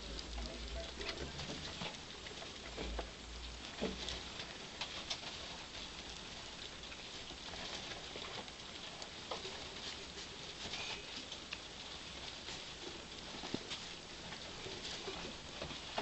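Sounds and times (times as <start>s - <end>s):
rats feeding and rustling: 0.0s - 16.0s.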